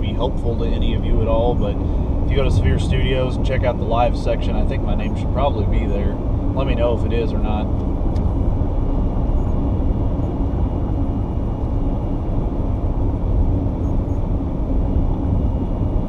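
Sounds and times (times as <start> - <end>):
vehicle cabin rumble: 0.0 - 16.0.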